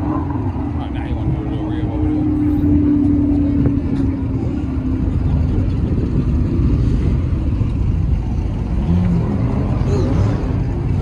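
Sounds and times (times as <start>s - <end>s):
car engines rumbling: 0.0s - 11.0s.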